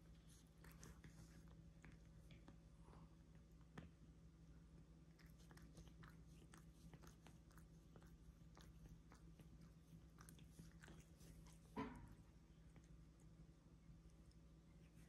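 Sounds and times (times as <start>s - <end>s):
cat tongue licking fur: 0.0s - 3.8s, 4.8s - 15.0s
low steady hum: 0.0s - 15.0s.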